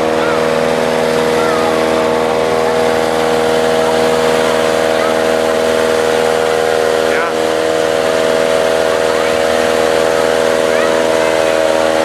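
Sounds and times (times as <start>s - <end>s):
machine humming steadily: 0.0s - 12.0s.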